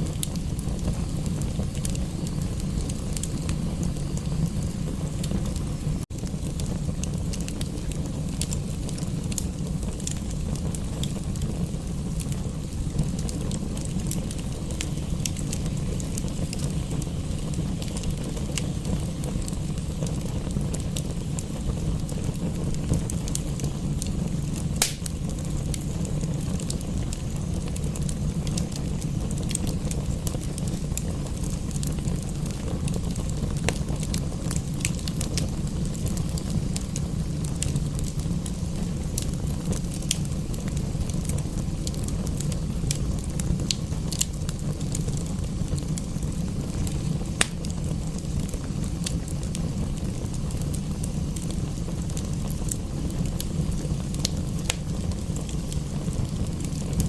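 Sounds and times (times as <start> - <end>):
rain: 0.0 - 57.0
wood fire crackling: 0.0 - 57.0.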